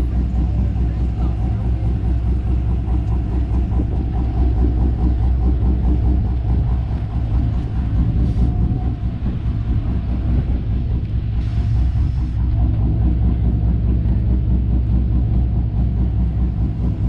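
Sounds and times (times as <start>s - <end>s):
car engine and exhaust drone: 0.0s - 17.0s.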